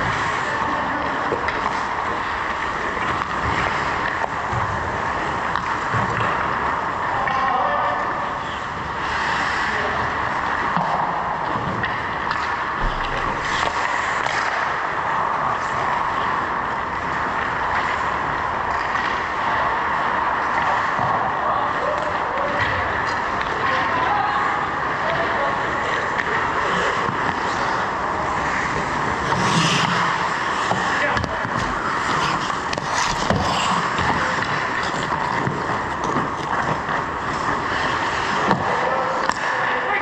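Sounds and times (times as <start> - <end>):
skates and sticks clicking on ice: 0.0 - 40.0.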